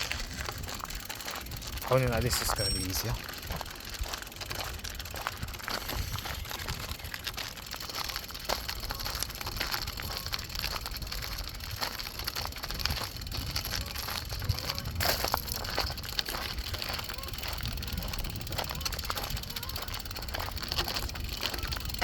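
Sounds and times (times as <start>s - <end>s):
wind rumbling on microphone: 0.0s - 2.4s, 3.0s - 22.0s
bicycle clicks and rattles: 0.0s - 22.0s.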